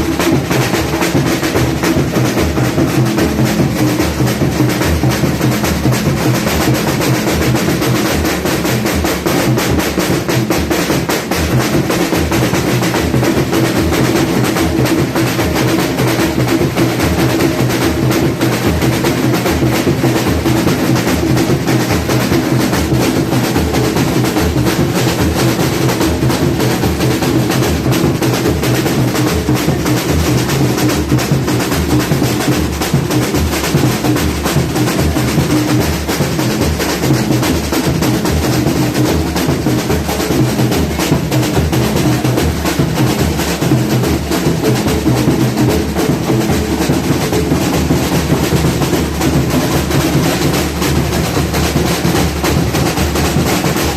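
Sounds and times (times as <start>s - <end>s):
deep drum beats: 0.0s - 53.9s
rolling snare drums: 0.0s - 53.9s.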